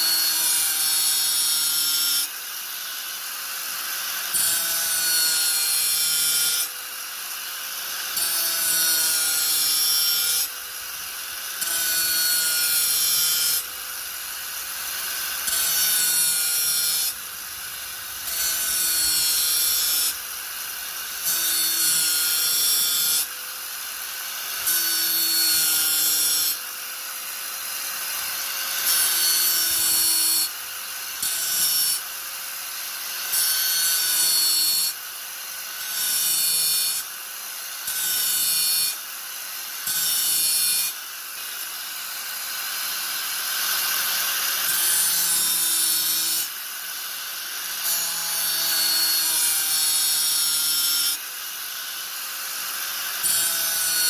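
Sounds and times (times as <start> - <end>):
angle grinder cutting wood: 0.0 - 35.0, 35.8 - 54.0.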